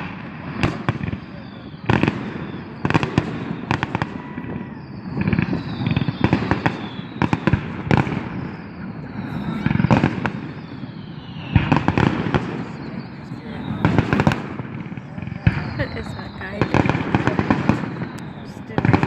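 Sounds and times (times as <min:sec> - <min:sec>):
distant firework blasts rumble: 0:00.0 - 0:19.0
firecrackers bangs and pops: 0:00.0 - 0:19.0.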